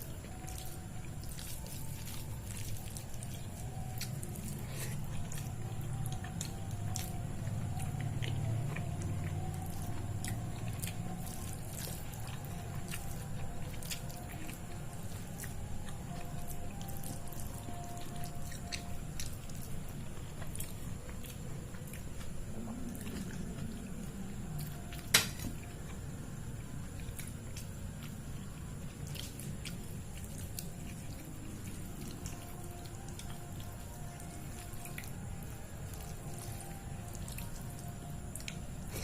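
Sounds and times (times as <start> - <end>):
chewing: 0.0 - 39.0.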